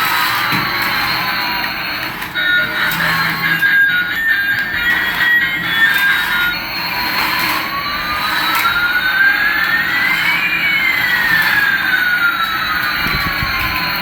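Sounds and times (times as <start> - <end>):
electronic jet engine whine: 0.0 - 14.0.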